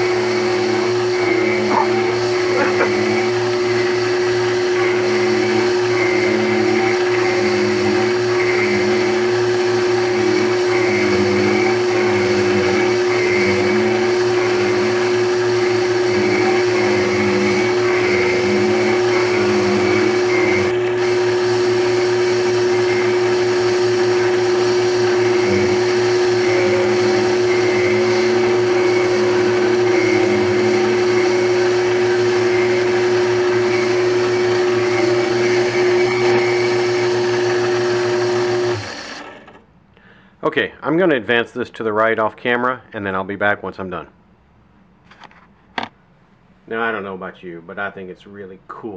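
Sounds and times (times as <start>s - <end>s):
cutter cutting wood: 0.0s - 39.6s
motor humming: 0.0s - 39.6s.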